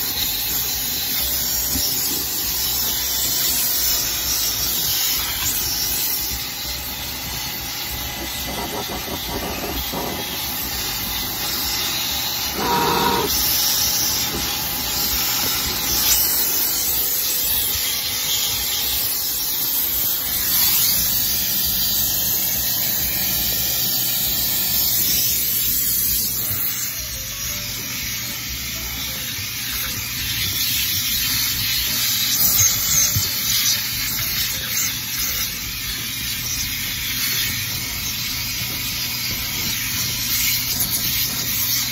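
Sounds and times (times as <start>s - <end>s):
shop vacuum running: 0.0s - 41.9s.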